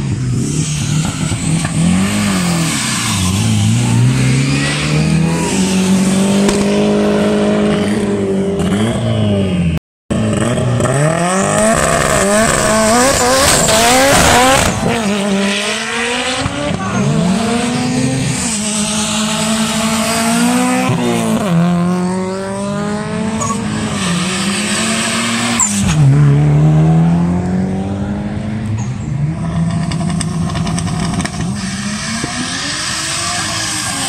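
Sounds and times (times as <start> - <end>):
car accelerating hard: 0.0 - 9.5, 10.1 - 34.0
car engines revving: 0.0 - 34.0.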